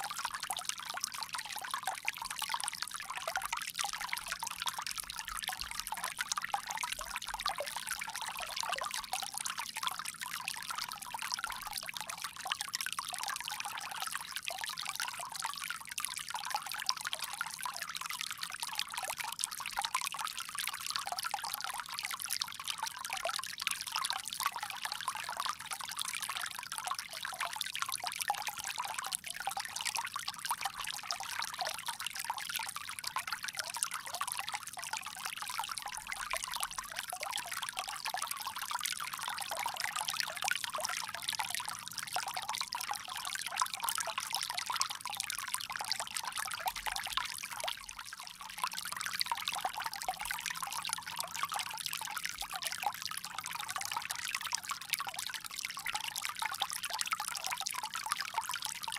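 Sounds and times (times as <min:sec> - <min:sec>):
water trickling from bamboo spout: 0:00.0 - 0:58.8.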